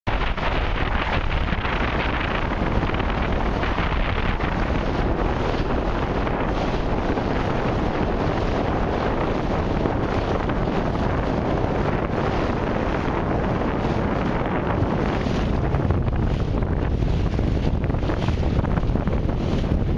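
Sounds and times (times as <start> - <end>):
choppy sea water: 0.0 - 19.9
wind buffeting microphone: 0.1 - 19.9.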